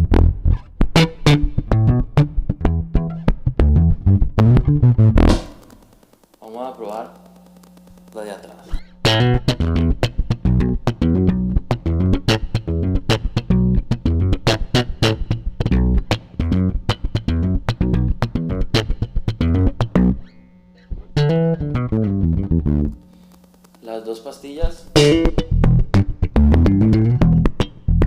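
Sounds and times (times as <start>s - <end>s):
slapped electric bass notes: 0.0s - 6.0s, 8.7s - 23.0s, 24.9s - 28.0s.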